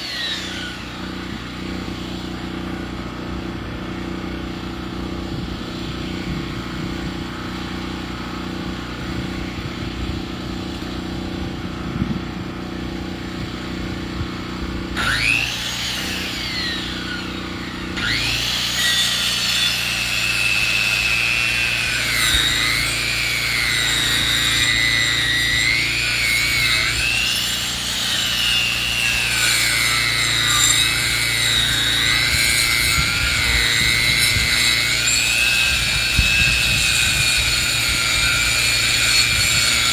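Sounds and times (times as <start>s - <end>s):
saw whining through log: 0.0s - 39.9s
sawmill engine running: 0.0s - 39.9s.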